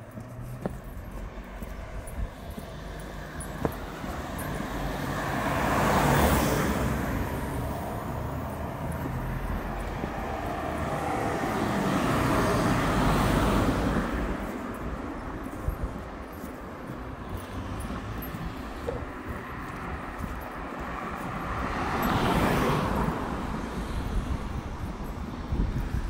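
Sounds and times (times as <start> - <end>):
cars passing by: 0.0 - 26.0
low steady traffic rumble: 0.0 - 26.0.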